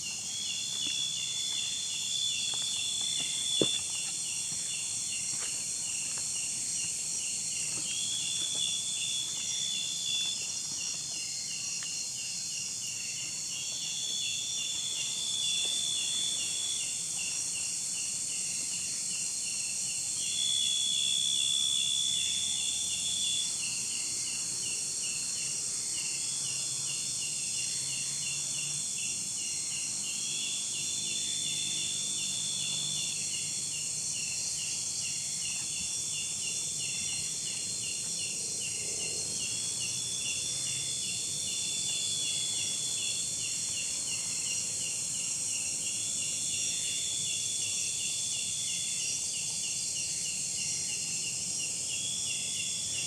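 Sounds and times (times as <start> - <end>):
high insect chirps: 0.0 - 53.0
insects hissing: 0.0 - 53.0.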